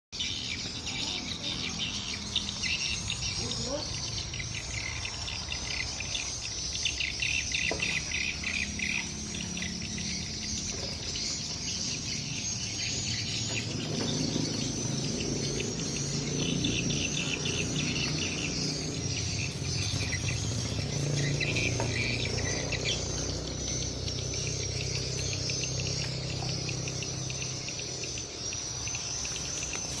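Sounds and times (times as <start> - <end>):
rapid bird trilling: 0.2 - 30.0.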